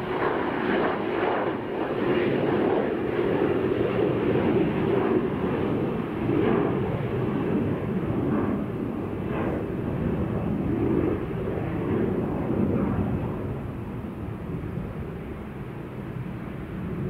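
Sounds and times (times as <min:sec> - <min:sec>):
distant jet engine rumble: 0:00.0 - 0:17.0.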